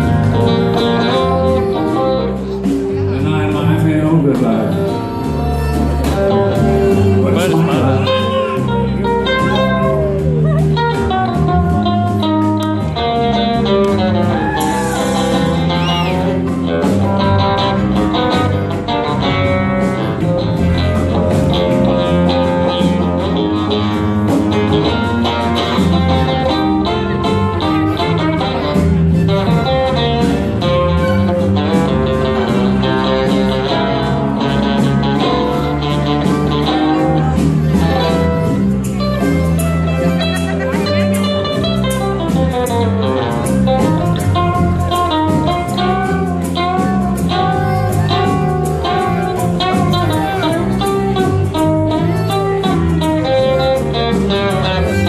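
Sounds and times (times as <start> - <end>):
bass line: 0.0 - 55.0
nylon-string guitar lead: 0.0 - 55.0.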